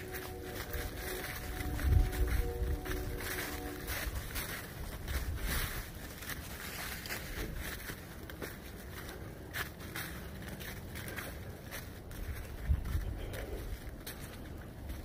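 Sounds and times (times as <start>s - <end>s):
low rumble on microphone: 0.0s - 7.9s, 10.6s - 15.0s
footsteps on dry leaves: 0.0s - 15.0s.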